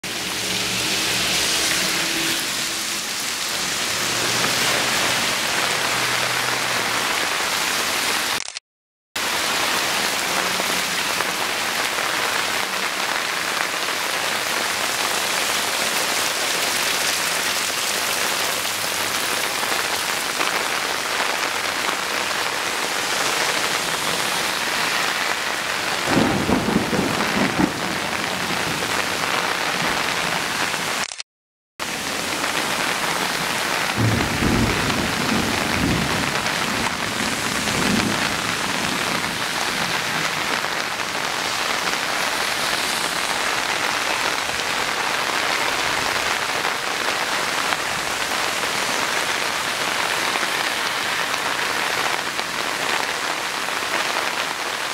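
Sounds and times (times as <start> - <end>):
heavy rain pouring: 0.0 - 8.6, 9.2 - 31.2, 31.8 - 54.9.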